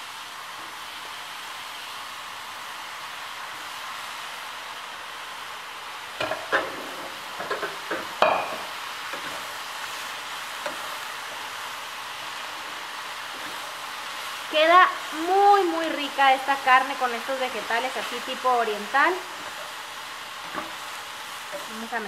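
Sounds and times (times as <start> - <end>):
vegetables sizzling in a skillet: 0.0 - 22.0.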